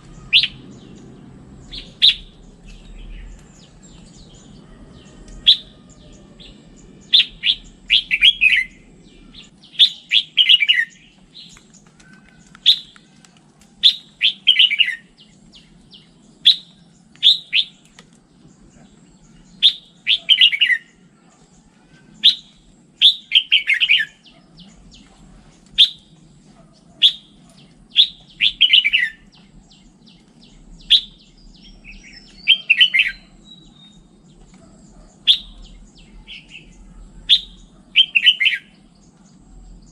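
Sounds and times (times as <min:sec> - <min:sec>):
bird singing chirps: 0:00.0 - 0:39.9
faint low hum: 0:00.0 - 0:39.9.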